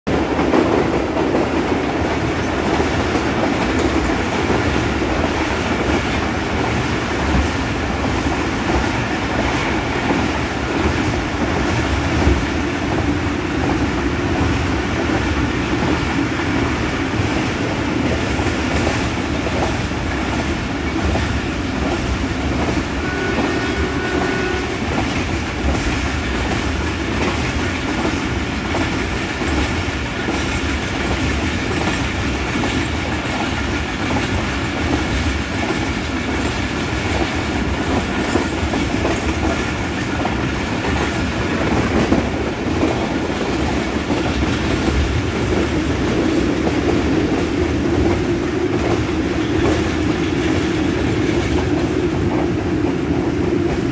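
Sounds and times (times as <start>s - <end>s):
train rumbling on track: 0.0s - 53.9s.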